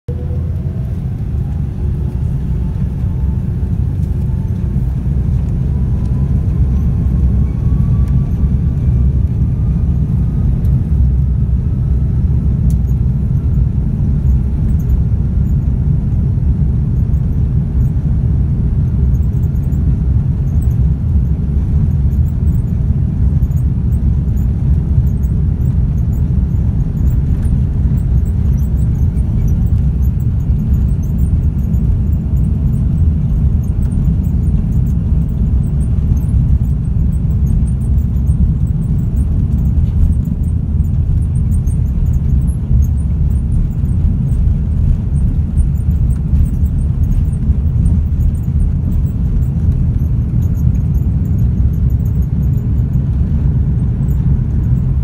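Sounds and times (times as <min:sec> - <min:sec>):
jet engines and runway rumble: 0:00.0 - 0:55.0
jet engine whine rising: 0:00.1 - 0:55.0.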